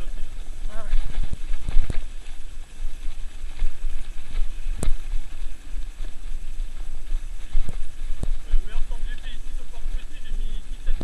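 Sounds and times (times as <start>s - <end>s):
kart wheels rumbling and rattling: 0.0s - 11.0s
wind buffeting microphone: 0.0s - 11.0s.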